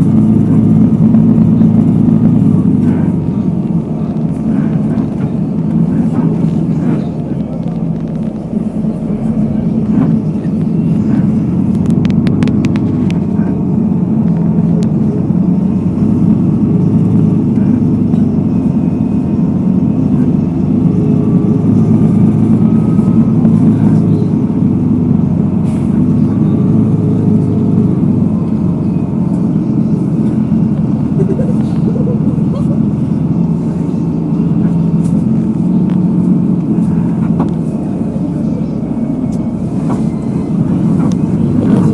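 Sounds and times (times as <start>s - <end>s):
traffic low rumble: 0.0s - 41.9s.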